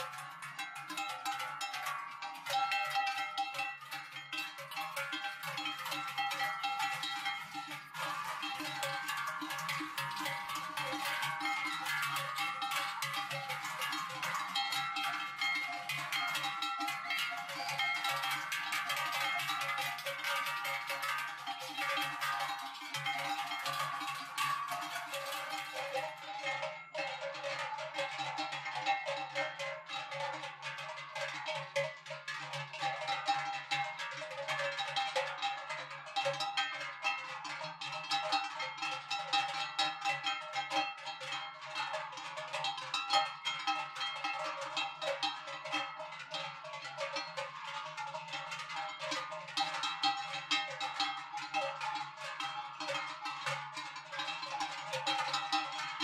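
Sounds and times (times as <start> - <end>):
cowbells clanging: 0.0 - 56.0.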